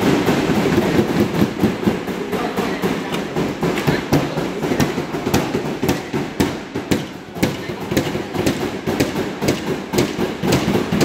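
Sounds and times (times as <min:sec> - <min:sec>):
hammers knocking nails into wood: 0:00.0 - 0:11.0.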